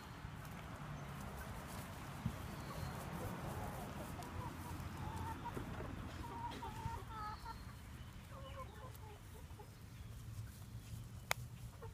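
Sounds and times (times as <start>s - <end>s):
chickens clucking: 0.4s - 11.9s.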